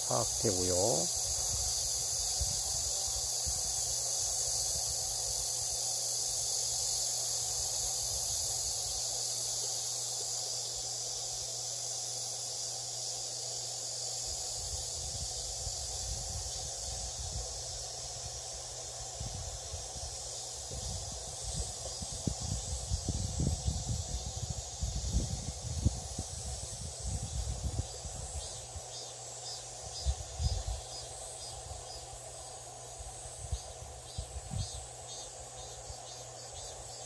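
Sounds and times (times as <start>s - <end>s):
insects chorus: 0.0s - 37.0s.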